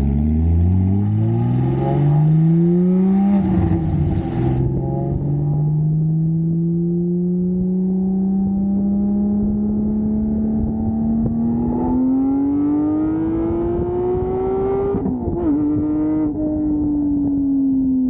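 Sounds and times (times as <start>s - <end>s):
car engine accelerating: 0.0s - 17.9s.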